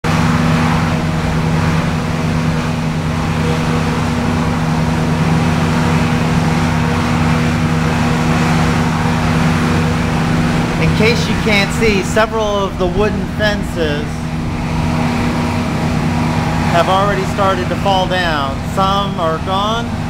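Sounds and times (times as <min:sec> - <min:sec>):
building machinery hum: 0:00.0 - 0:20.0
strong wind: 0:00.1 - 0:20.0.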